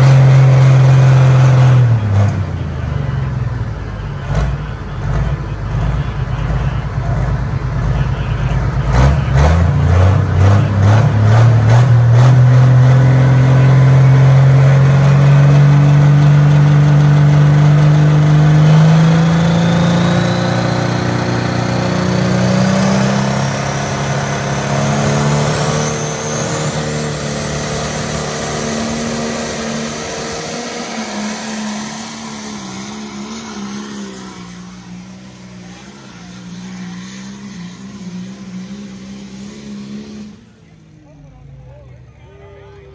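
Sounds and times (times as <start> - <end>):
diesel tractor engine revving: 0.0 - 41.7.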